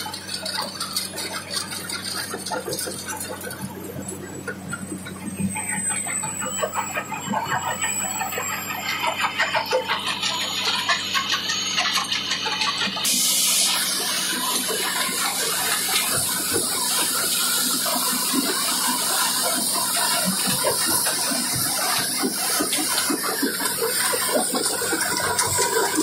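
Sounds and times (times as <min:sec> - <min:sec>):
rock clattering and grinding in crusher: 0:00.0 - 0:26.0.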